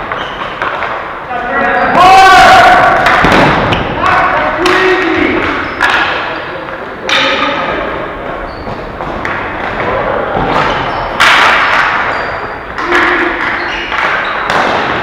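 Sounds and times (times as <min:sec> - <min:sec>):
ball and sticks thudding on boards: 0:00.0 - 0:01.3, 0:01.9 - 0:07.8, 0:08.6 - 0:15.0.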